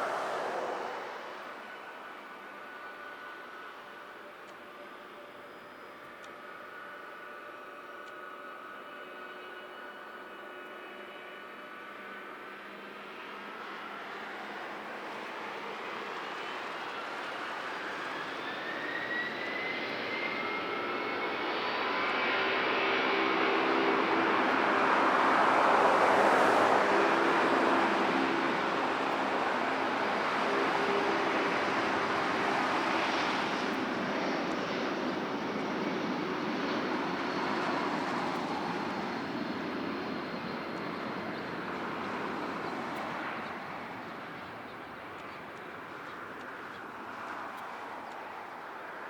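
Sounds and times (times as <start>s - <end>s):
jet airliner engines roaring: 0.0s - 49.0s.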